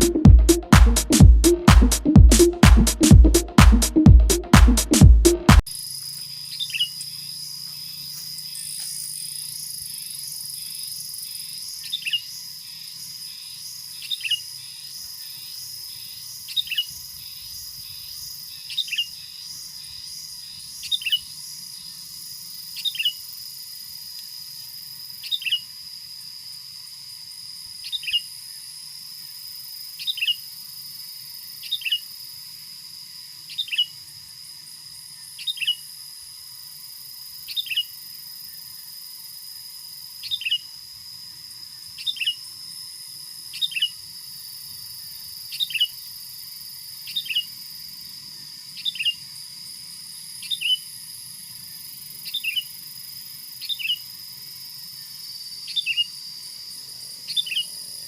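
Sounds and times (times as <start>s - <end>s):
insects buzzing and trilling: 5.7s - 58.0s.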